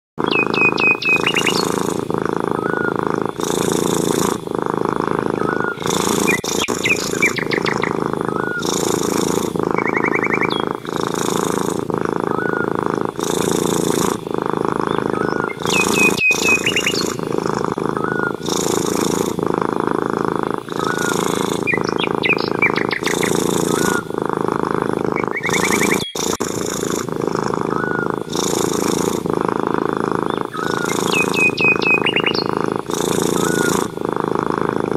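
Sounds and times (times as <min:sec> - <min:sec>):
cat purring: 0:00.2 - 0:34.9
small birds chirping: 0:00.2 - 0:34.9.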